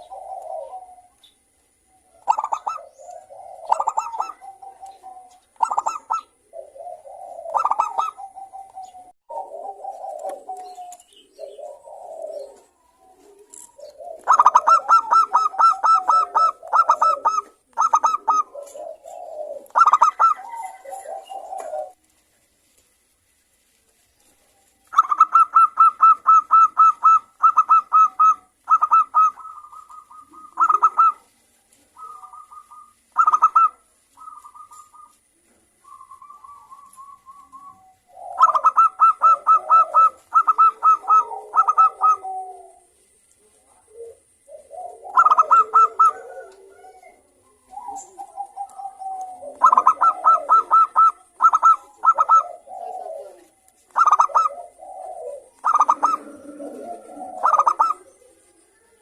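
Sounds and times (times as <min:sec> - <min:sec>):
doves cooing rapidly: 0:00.0 - 0:01.2, 0:01.8 - 0:22.0, 0:24.9 - 0:59.0.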